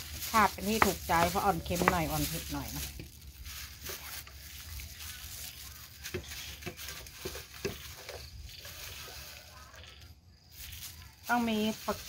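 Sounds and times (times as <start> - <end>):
gloved hand mixing food: 0.0 - 12.0.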